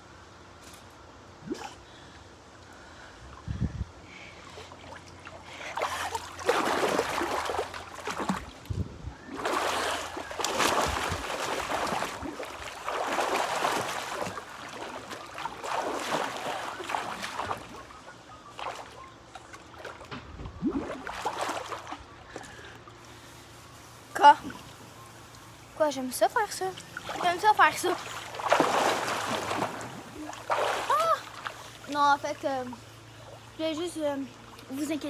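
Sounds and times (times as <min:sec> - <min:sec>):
pool water splashing: 0:04.5 - 0:35.0.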